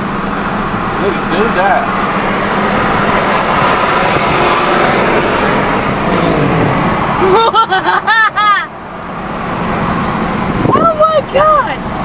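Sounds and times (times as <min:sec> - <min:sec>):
car engine: 0:00.0 - 0:12.0
road and traffic noise: 0:00.0 - 0:12.0.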